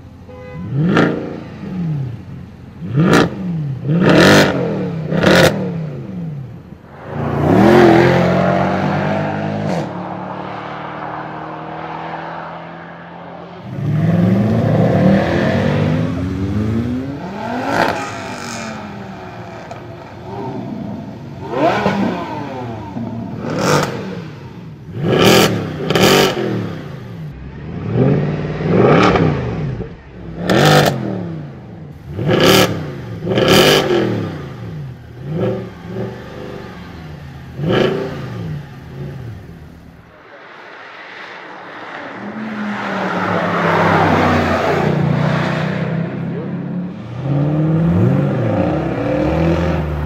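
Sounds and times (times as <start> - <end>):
car engine revving: 0.7 - 50.0.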